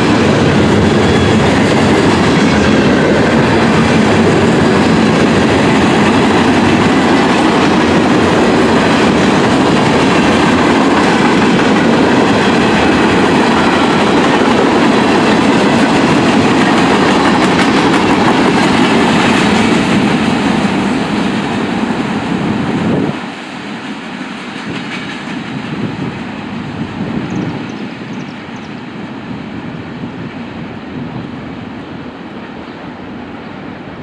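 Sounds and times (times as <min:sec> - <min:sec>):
wheels clacking over rail joints: 0:00.0 - 0:28.6
train wheels rumbling on rails: 0:00.0 - 0:34.0.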